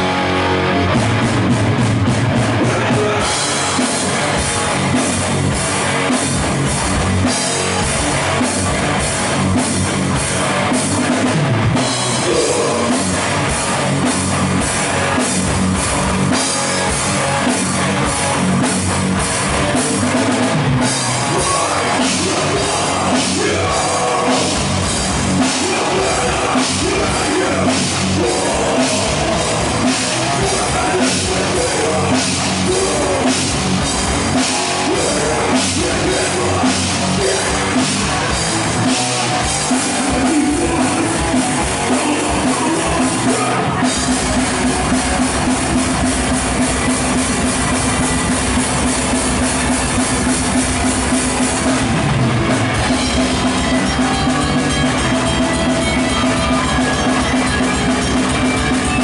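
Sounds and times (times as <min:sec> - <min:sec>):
distorted electric guitars: 0:00.0 - 0:59.0
driving drum beat with cymbals: 0:01.0 - 0:59.0.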